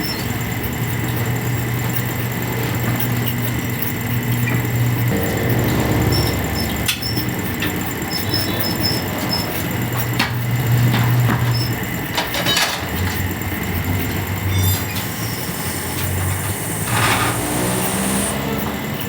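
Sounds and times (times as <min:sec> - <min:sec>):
scattered clicks and knocks: 0:00.0 - 0:19.0
vehicle engine humming: 0:00.0 - 0:19.0.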